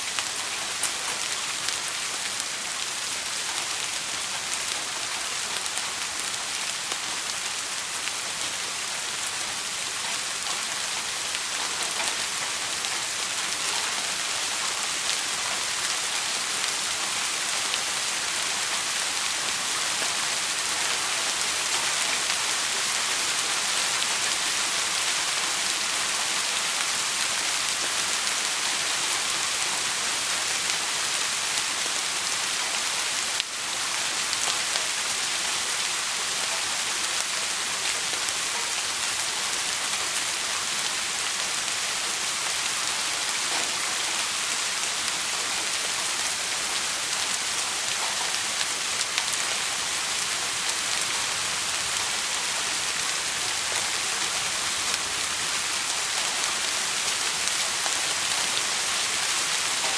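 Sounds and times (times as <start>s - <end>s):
dense rain hiss: 0.0s - 59.9s.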